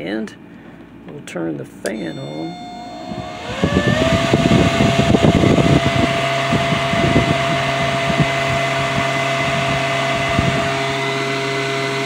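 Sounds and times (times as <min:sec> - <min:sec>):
blower whine and air rush: 0:02.0 - 0:12.0.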